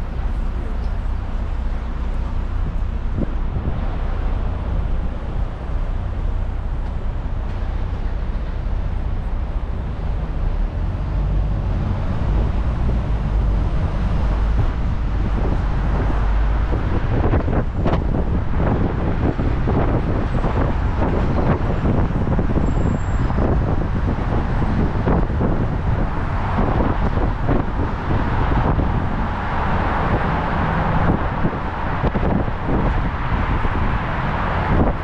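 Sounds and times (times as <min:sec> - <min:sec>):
bus engine rumble: 0:00.0 - 0:35.0
passing traffic: 0:00.0 - 0:35.0
wind buffeting microphone: 0:00.0 - 0:35.0.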